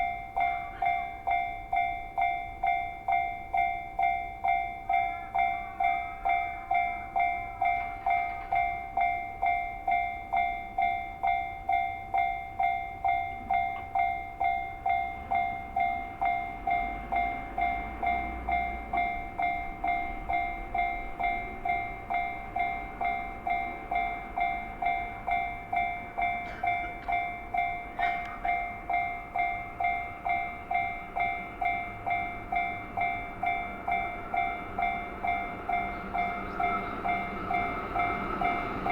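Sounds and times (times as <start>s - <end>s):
level crossing alarm ringing: 0.0s - 38.9s
train rumble: 0.0s - 38.9s.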